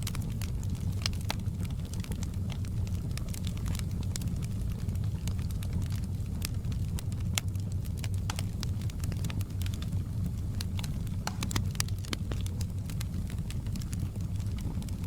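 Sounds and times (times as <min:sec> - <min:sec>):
burning wood crackling and popping: 0:00.0 - 0:15.0
fire roaring: 0:00.0 - 0:15.0.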